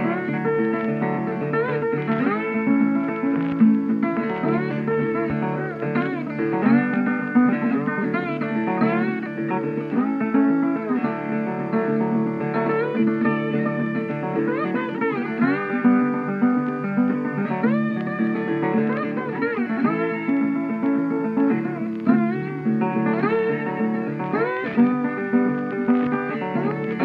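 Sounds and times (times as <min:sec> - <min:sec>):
guitar music with sliding notes: 0:00.0 - 0:27.0.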